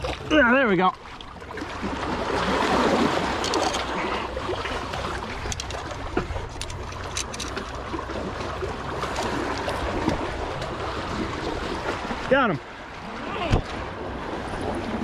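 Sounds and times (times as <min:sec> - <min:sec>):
water washing along rocky shore: 0:00.0 - 0:15.0.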